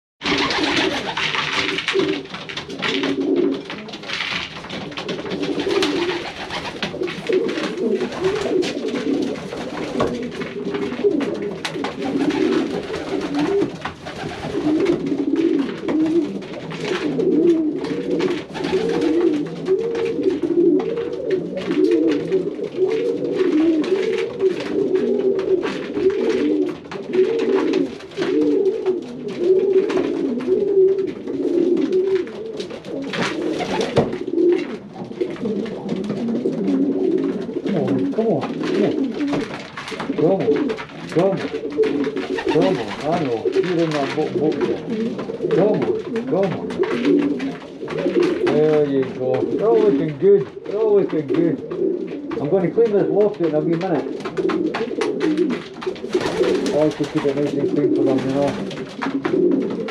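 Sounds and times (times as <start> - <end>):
pigeons cooing: 0.2 - 59.9.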